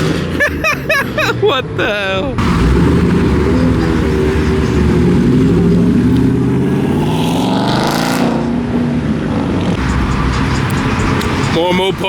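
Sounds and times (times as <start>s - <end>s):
loud car engine and exhaust: 0.0s - 12.0s.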